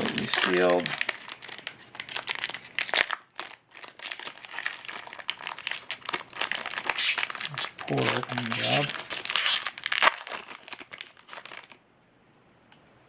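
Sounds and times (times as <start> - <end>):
wrapper crinkling and tearing: 0.0 - 11.8.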